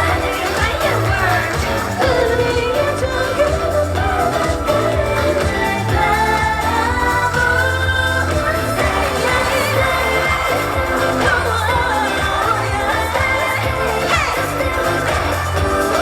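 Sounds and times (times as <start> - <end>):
live pop song over sound system: 0.0 - 16.0.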